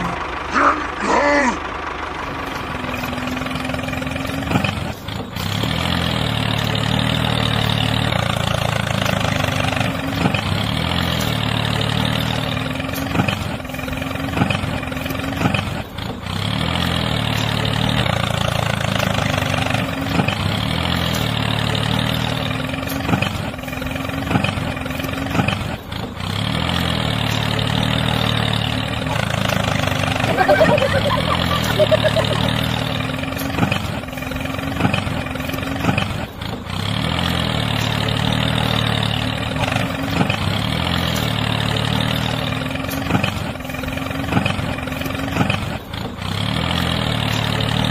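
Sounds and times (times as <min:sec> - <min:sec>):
tractor engine chugging: 0:00.0 - 0:47.9.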